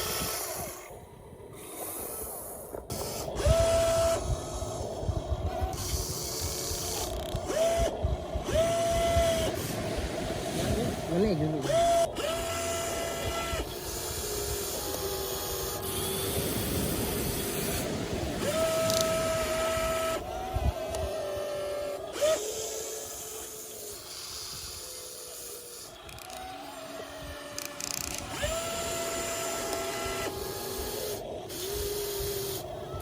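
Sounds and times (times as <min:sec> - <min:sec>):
small electric motors whining: 0:00.0 - 0:33.0.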